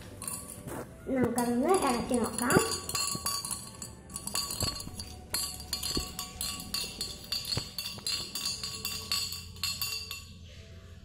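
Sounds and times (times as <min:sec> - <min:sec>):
metal spoon clinking against glass: 0:00.1 - 0:10.5.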